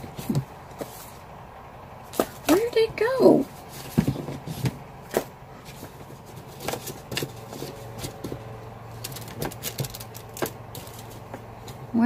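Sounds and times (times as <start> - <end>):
books rustling and tapping: 0.0 - 1.3, 2.0 - 2.8, 3.4 - 11.9
faint steady hum: 0.0 - 12.0.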